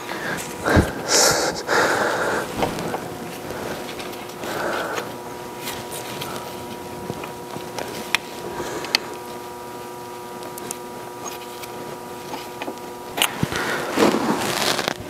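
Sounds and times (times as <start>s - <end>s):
handling noise: 0.0s - 15.0s
steady hum: 0.0s - 15.0s.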